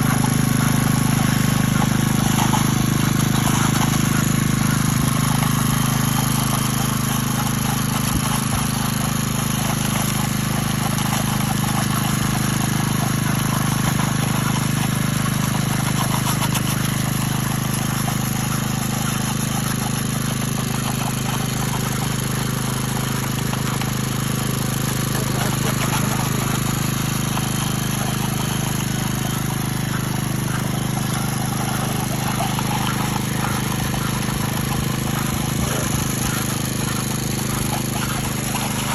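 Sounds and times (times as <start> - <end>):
power trowel engine hum: 0.0 - 38.9.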